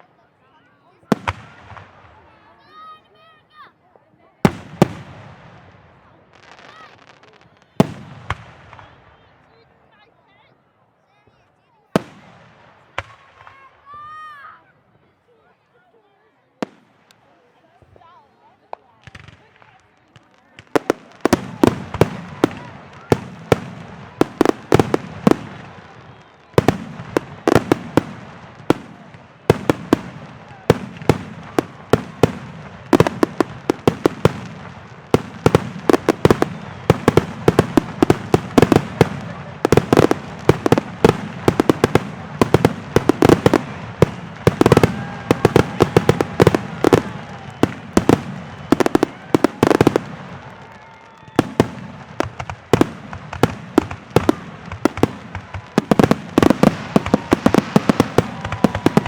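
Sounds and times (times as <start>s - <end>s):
fireworks bursting with bangs: 1.0s - 2.5s, 4.3s - 9.2s, 11.9s - 13.7s, 16.6s - 17.9s, 18.6s - 59.0s.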